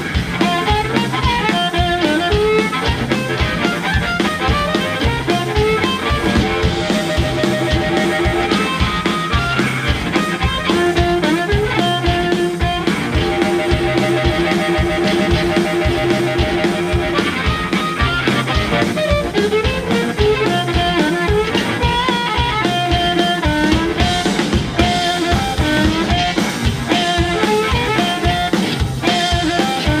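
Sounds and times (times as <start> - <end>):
amplified harmonica: 0.0 - 30.0
live blues band playing: 0.0 - 30.0.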